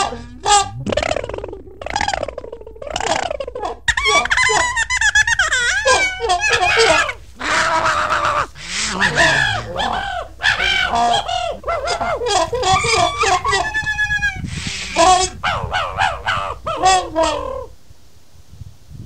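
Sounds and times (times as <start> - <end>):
fowl calling loudly: 0.0 - 17.8.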